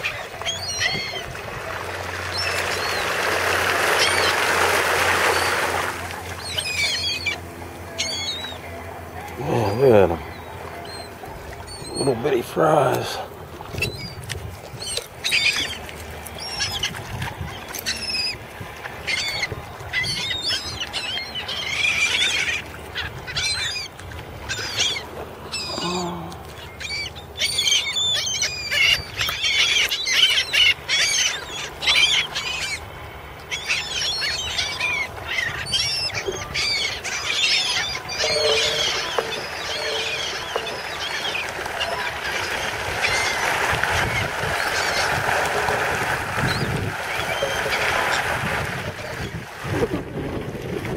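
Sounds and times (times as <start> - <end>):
gulls squawking: 0.0 - 50.1.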